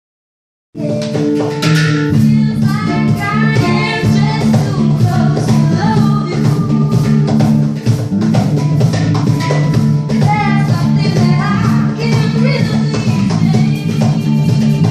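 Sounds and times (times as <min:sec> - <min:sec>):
hang drum tones: 0:00.8 - 0:14.9
percussion strikes: 0:00.8 - 0:14.9
sustained bass notes: 0:00.8 - 0:14.9.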